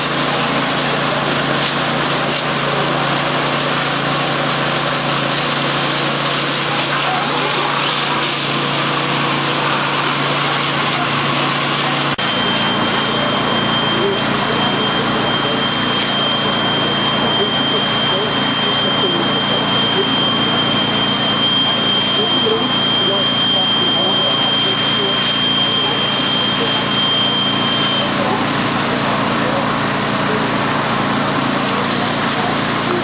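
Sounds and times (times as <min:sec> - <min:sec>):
fire engine pump running: 0:00.0 - 0:33.0
water hissing from hoses: 0:00.0 - 0:33.0
steady high tone: 0:02.6 - 0:33.0.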